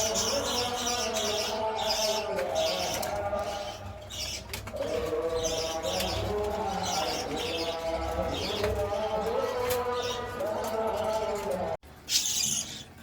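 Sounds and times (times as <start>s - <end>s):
pigeons cooing: 0.0s - 13.0s
small birds chirping: 0.0s - 13.0s.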